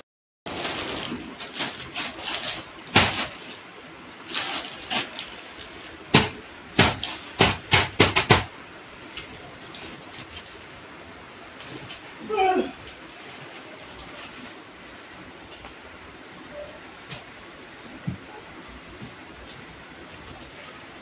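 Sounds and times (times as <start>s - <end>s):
plastic bags rustling: 0.5s - 18.0s.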